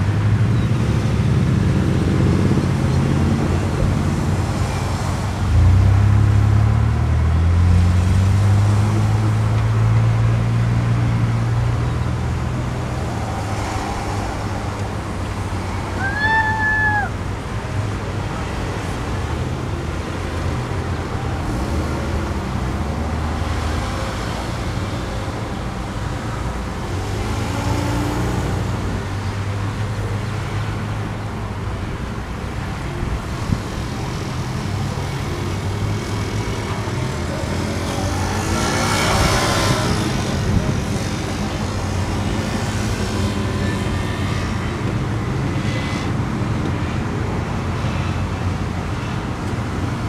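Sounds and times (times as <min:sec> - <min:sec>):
traffic passing: 0:00.0 - 0:50.0.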